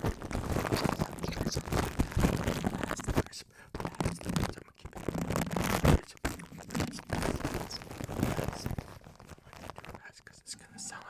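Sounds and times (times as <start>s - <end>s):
scratching and crinkling on microphone: 0.0s - 11.0s.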